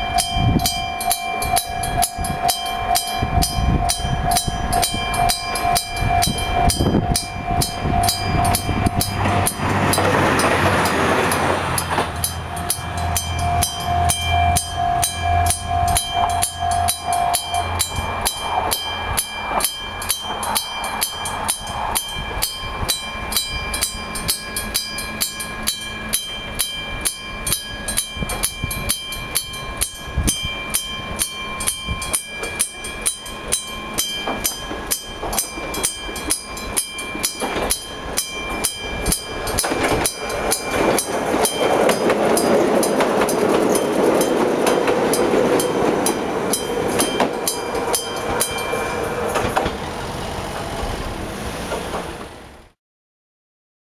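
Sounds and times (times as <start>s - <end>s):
level crossing warning bell: 0.0s - 51.2s
train rumbling over crossing: 0.0s - 52.8s.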